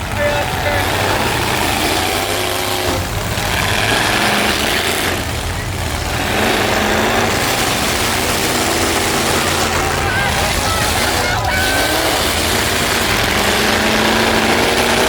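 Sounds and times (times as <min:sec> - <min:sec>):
truck engines droning loudly: 0:00.0 - 0:15.0.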